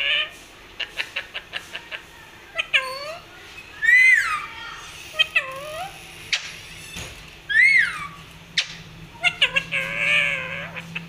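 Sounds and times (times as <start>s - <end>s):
parakeets calling: 0.0s - 11.0s.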